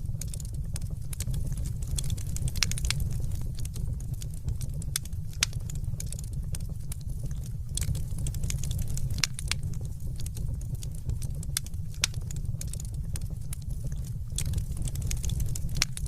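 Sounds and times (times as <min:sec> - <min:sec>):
low rumble of flame: 0:00.0 - 0:16.0
wood fire crackling and popping: 0:00.0 - 0:16.0.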